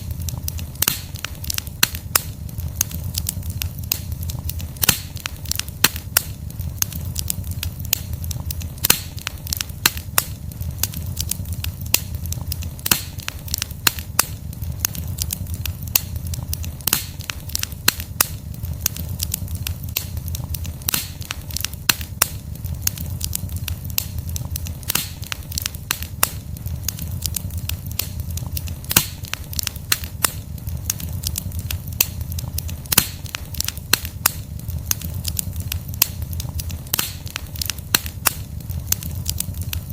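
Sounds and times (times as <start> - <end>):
low rumble of flames: 0.0 - 39.9
pops and snaps of burning logs: 0.0 - 39.9
wood fire crackling: 0.0 - 39.9.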